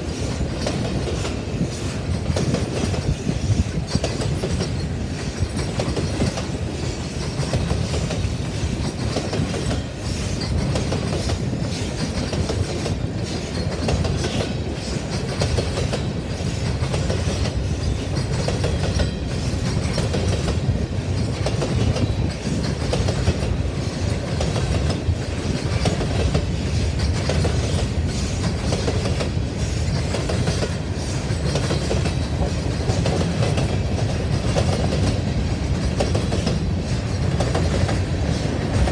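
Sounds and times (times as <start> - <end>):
low train rumble: 0.0 - 38.9
train wheels clicking over rail joints: 0.0 - 38.9.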